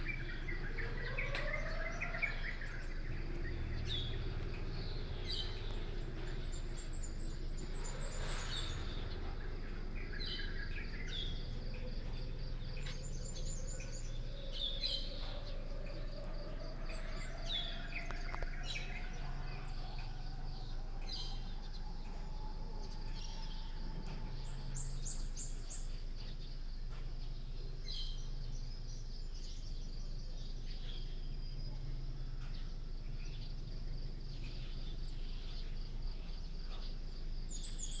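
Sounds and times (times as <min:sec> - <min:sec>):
birds chirping: 0:00.0 - 0:38.0
high insect drone: 0:00.0 - 0:38.0
low hum: 0:00.0 - 0:38.0.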